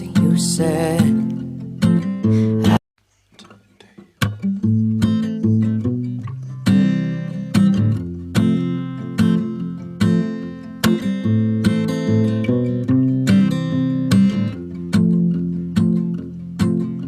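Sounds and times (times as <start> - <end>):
acoustic guitar strumming chords: 0.0 - 2.8, 3.4 - 17.0.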